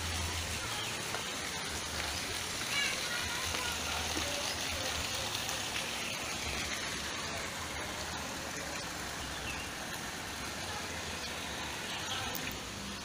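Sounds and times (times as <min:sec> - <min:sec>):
water pouring into pool: 0:00.0 - 0:13.0.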